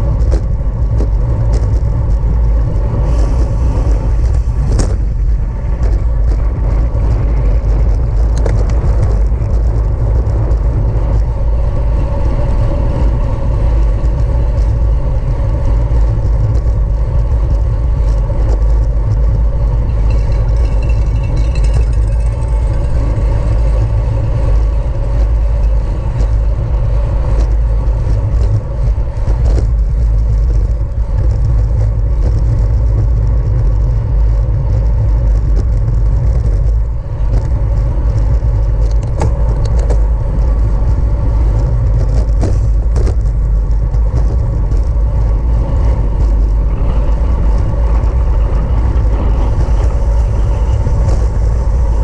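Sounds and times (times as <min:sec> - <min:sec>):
bicycle tyre and drivetrain rumble: 0:00.0 - 0:52.0
wind rushing over microphone: 0:00.0 - 0:52.0.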